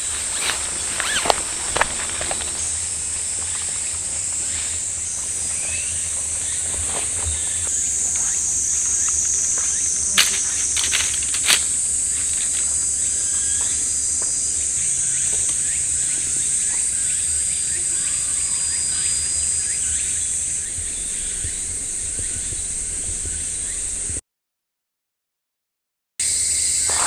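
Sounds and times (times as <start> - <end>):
high-pitched insect chorus: 0.0 - 24.2, 26.2 - 27.0.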